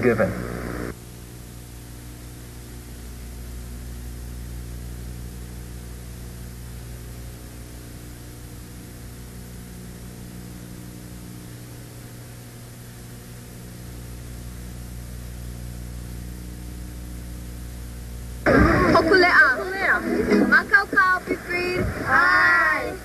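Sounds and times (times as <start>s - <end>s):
low electrical hum: 0.0s - 23.0s
tape hiss: 0.0s - 23.0s.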